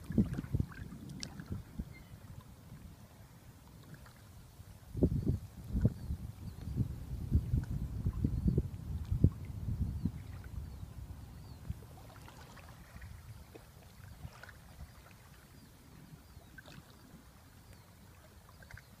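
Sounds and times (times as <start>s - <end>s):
water lapping: 0.0s - 5.0s, 7.4s - 19.0s.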